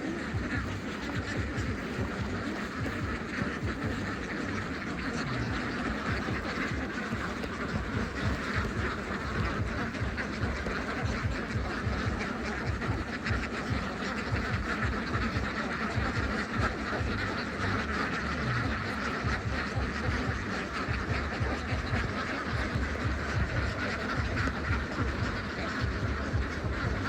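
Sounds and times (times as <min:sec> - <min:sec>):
ducks quacking: 0:00.0 - 0:27.0
low irregular rumble: 0:00.0 - 0:27.0.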